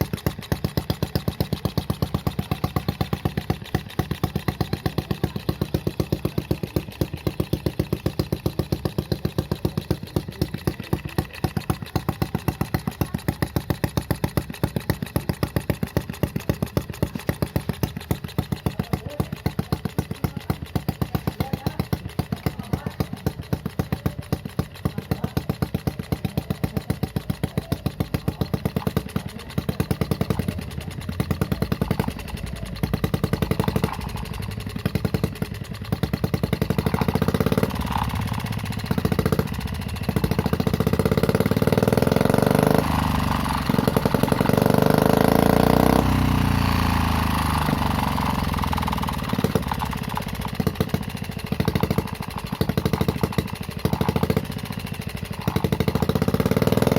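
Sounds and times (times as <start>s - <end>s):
small engine idling and revving: 0.0s - 56.9s.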